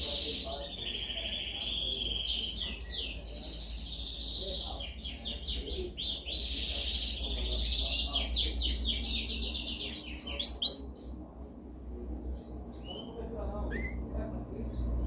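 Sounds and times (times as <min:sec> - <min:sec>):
canary singing trills: 0:00.0 - 0:11.2, 0:12.2 - 0:15.0
steady low hum: 0:00.0 - 0:15.0.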